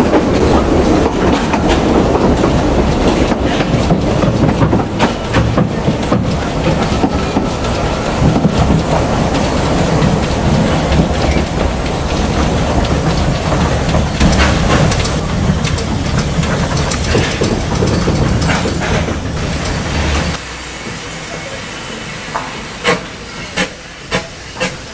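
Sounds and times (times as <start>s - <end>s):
wheels clicking over rail joints: 0.0s - 21.6s
train wheels rumbling: 0.0s - 24.9s.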